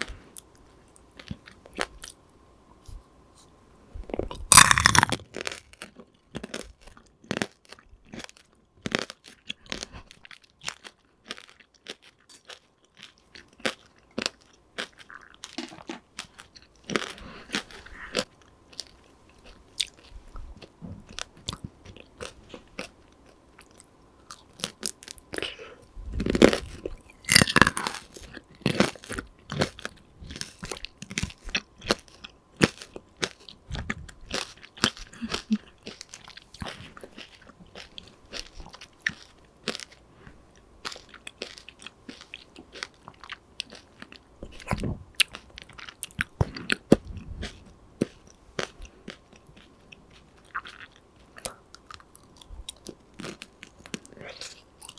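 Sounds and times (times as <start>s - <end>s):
crunchy candy shell being chewed: 4.1s - 54.9s.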